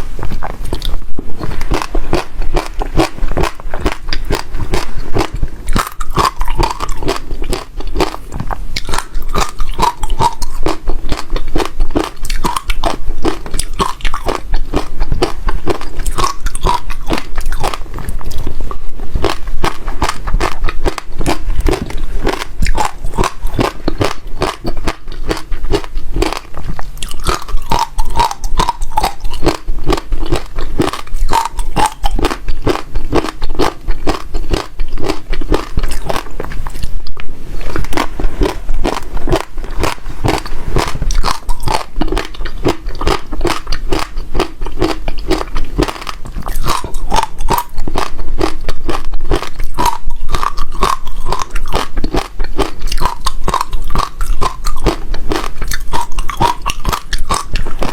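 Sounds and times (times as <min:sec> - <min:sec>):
person chewing crunchy seeds: 0:00.0 - 0:57.9.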